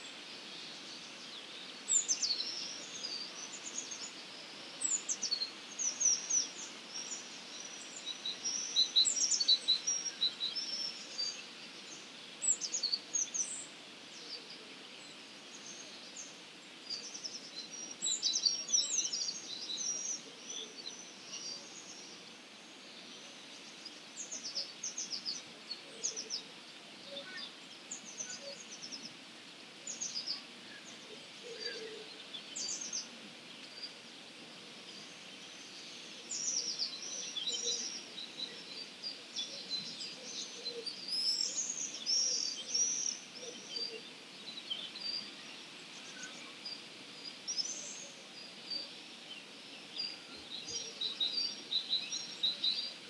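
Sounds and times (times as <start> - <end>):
background hiss: 0.0 - 53.0
songbirds chirping and singing: 0.0 - 53.0.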